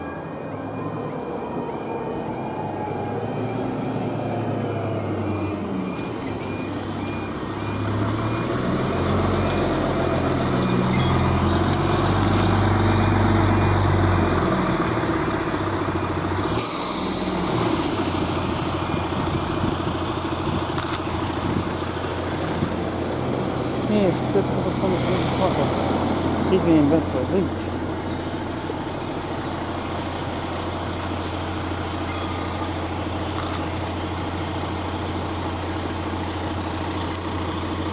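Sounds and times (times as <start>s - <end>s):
vehicle engines humming: 0.0s - 37.9s.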